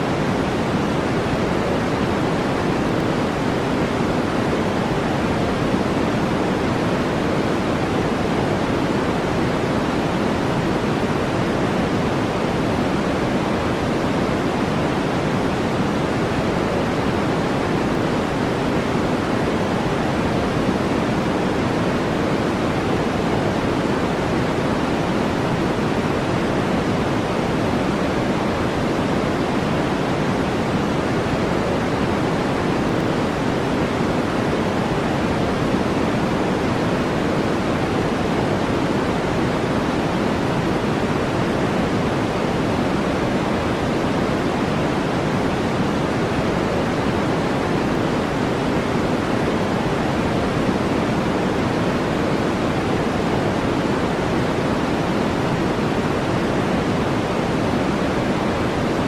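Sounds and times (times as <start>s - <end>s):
deep brown noise hiss: 0.0s - 59.0s.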